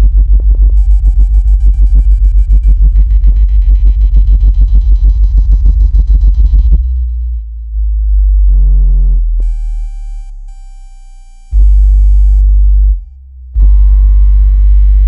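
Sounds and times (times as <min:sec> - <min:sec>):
deep bass drone: 0:00.0 - 0:15.0.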